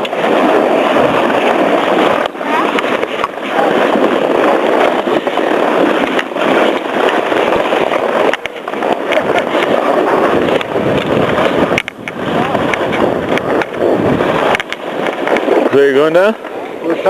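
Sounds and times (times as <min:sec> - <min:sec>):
sliding on packed snow: 0:00.0 - 0:17.0.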